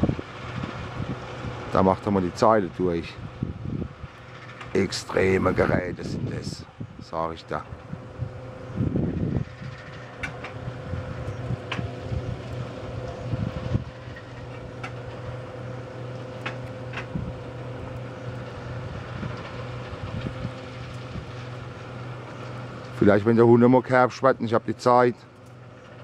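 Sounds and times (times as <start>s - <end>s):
distant harvester engine hum: 0.0s - 26.0s.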